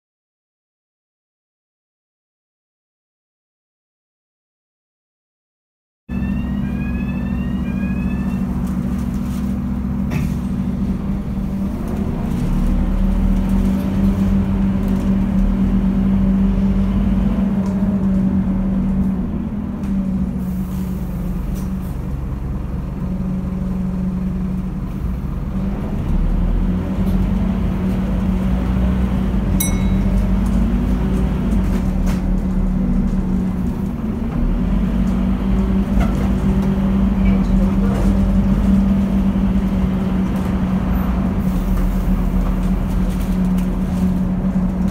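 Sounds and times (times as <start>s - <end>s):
bus engine droning: 6.1s - 44.9s.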